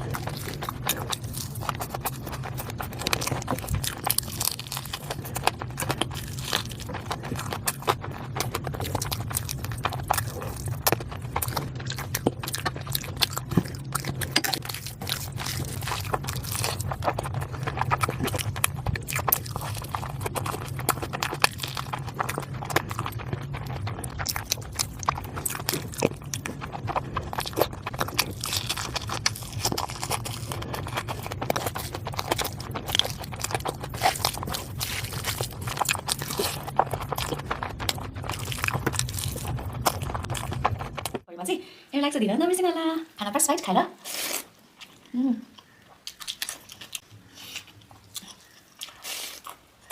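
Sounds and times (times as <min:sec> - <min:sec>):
low hum: 0:00.0 - 0:41.3
person chewing and biting food: 0:00.0 - 0:41.3, 0:44.0 - 0:49.9.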